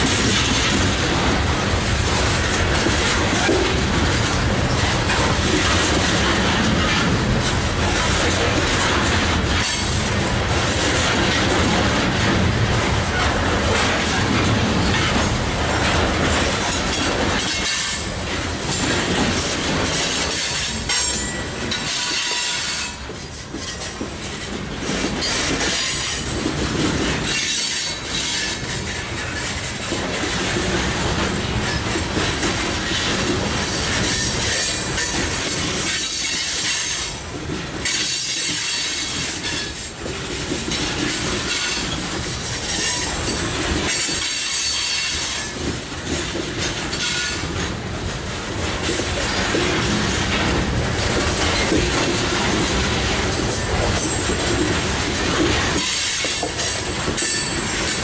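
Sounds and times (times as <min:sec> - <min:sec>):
train wheels clacking: 0:00.0 - 0:58.0
wheels squealing on rails: 0:02.1 - 0:47.8, 0:48.6 - 0:58.0.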